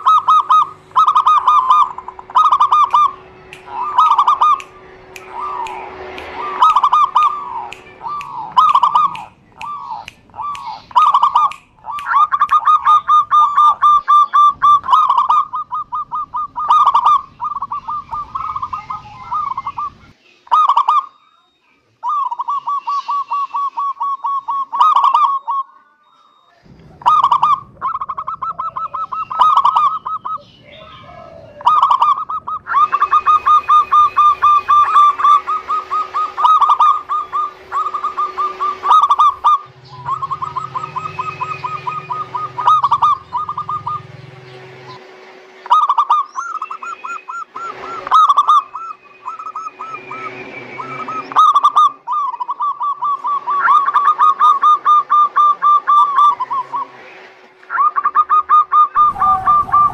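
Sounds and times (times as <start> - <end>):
doves cooing: 0.0 - 21.2, 22.0 - 25.8, 26.6 - 45.0, 45.6 - 56.9, 57.6 - 59.9.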